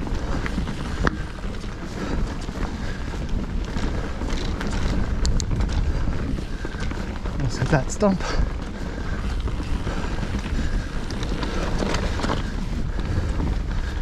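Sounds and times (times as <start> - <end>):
bike chain and parts rattling: 0.0 - 14.0
tyres rolling over dirt trail: 0.0 - 14.0
wind buffeting microphone: 0.0 - 14.0.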